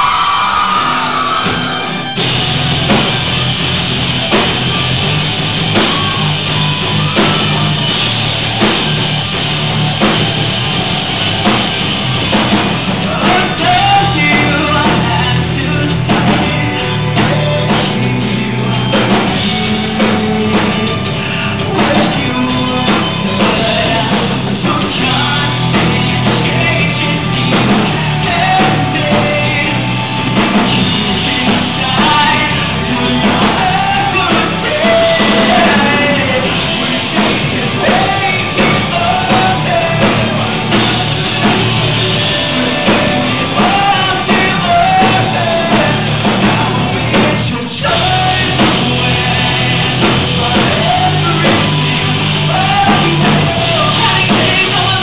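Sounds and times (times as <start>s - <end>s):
drums hitting: 0.0s - 55.0s
live rock band playing: 0.0s - 55.0s.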